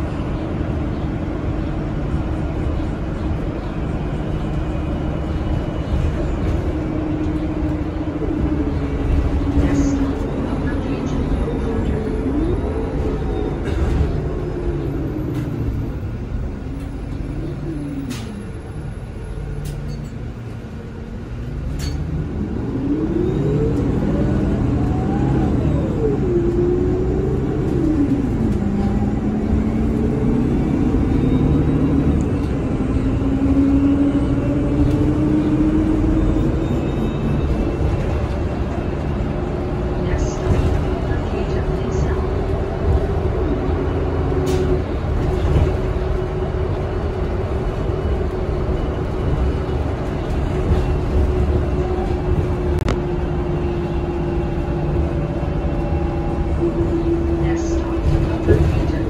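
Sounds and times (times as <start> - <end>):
bus engine rumble and whine: 0.0 - 59.0.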